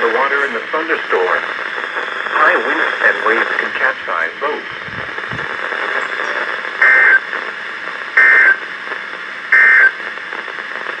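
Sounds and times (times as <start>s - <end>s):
steady radio hiss: 0.0s - 11.0s.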